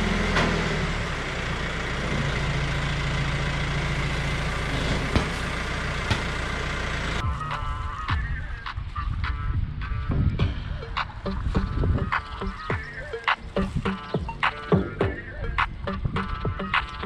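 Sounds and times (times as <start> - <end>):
tractor engine running: 0.0 - 8.9, 10.5 - 17.0.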